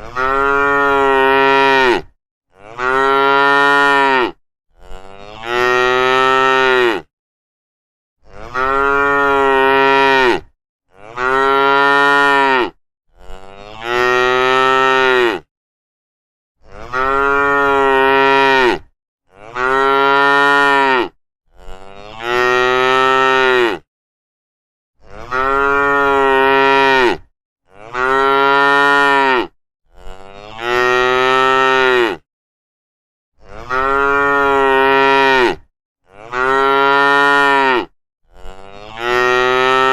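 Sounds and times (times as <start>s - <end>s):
cattle mooing: 0.0s - 7.1s, 8.2s - 15.5s, 16.8s - 23.8s, 25.1s - 32.2s, 33.5s - 39.9s.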